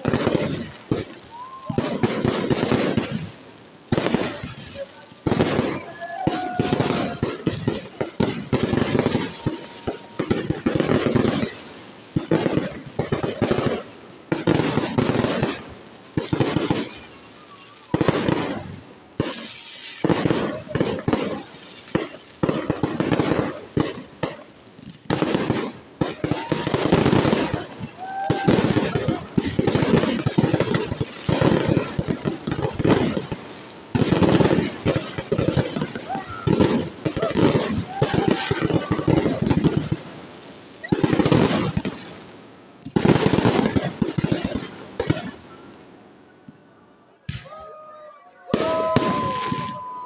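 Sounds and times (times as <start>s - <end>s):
fireworks bangs and pops: 0.0s - 50.0s.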